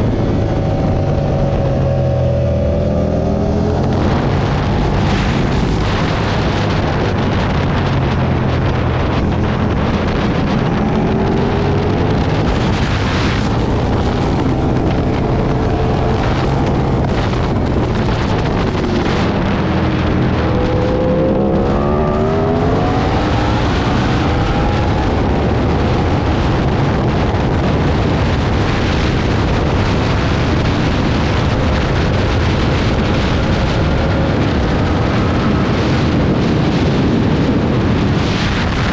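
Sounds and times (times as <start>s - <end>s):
motorcycle engine accelerating: 0.0s - 38.9s
wind rush on microphone: 0.0s - 38.9s.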